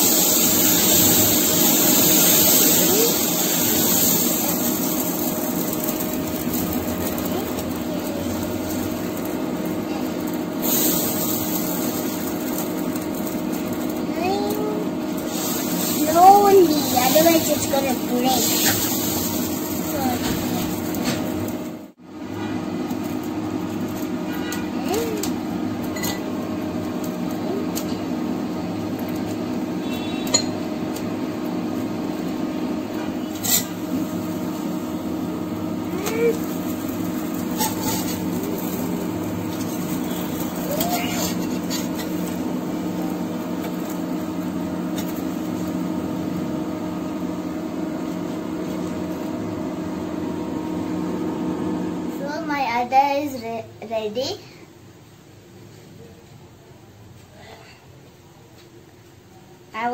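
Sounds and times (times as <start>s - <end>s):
batter sizzling in oil: 0.0s - 52.2s
machine hum: 0.0s - 52.5s.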